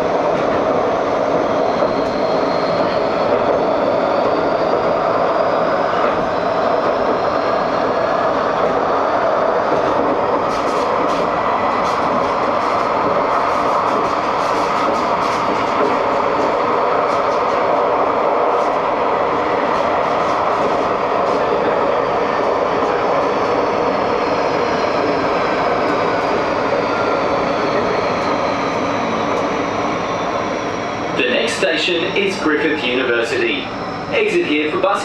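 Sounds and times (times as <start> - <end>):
tram wheels rumbling: 0.0 - 35.0.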